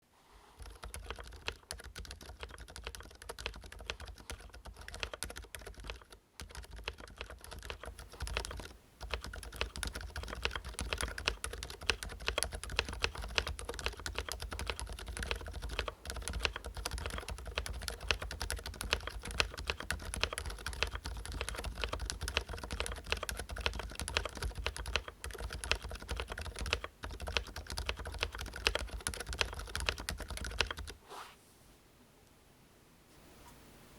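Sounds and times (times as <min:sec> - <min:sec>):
fast typing on mechanical keyboard: 0:00.6 - 0:31.0.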